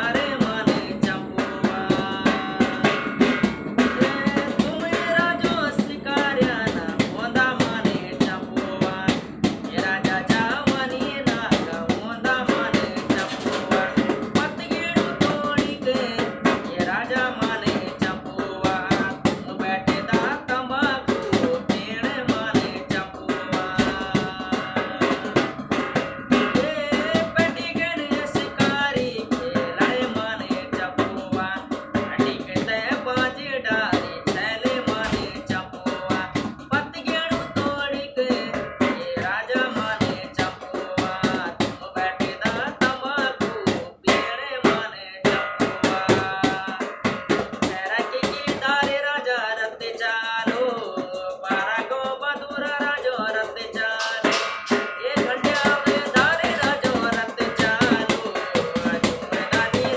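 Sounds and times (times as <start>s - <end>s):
man singing: 0.0s - 59.9s
music with steady drum beat: 0.0s - 59.9s.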